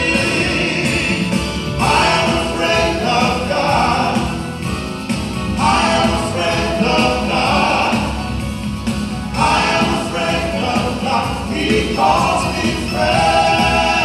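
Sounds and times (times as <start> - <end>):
men singing in harmony: 0.0 - 4.7, 5.5 - 8.4, 9.3 - 14.0.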